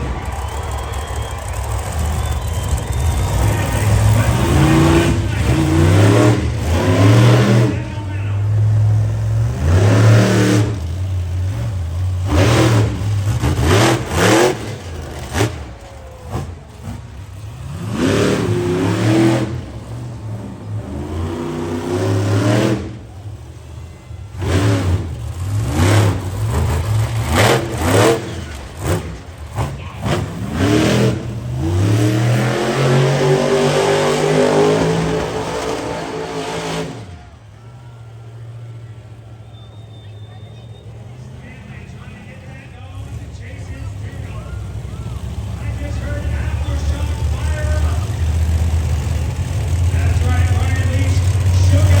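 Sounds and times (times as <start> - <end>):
monster truck engine revving: 0.0 - 52.0.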